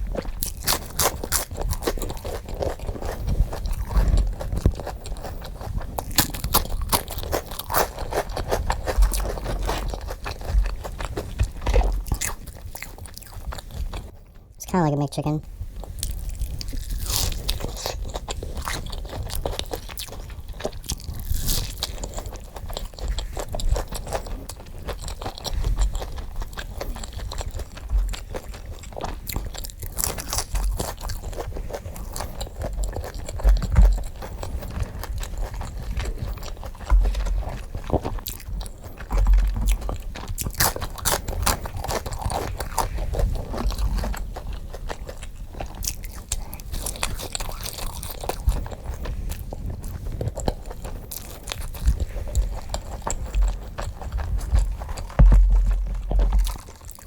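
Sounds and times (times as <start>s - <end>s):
person chewing crunchy food: 0.0s - 14.6s, 15.5s - 57.0s.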